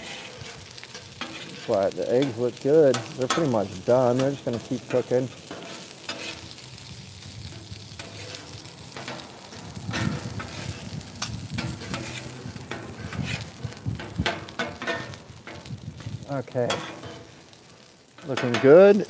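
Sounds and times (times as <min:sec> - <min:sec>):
metal spatulas scraping a griddle: 0:00.0 - 0:18.8
rice sizzling on a griddle: 0:00.0 - 0:19.0.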